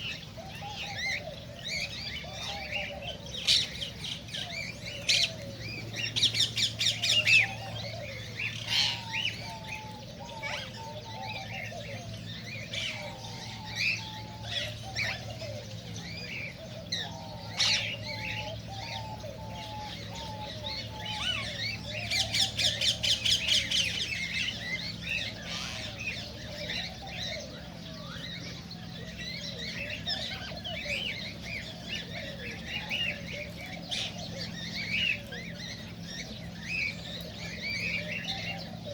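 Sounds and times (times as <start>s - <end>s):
cockatiels chirping and squawking: 0.0s - 38.9s
steady low hum: 0.0s - 38.9s.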